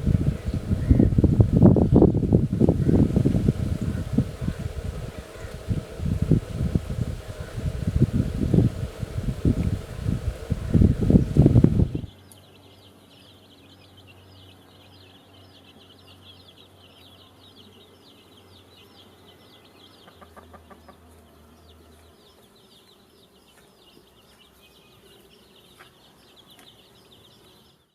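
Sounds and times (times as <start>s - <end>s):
faint birds chirping: 0.0s - 27.9s.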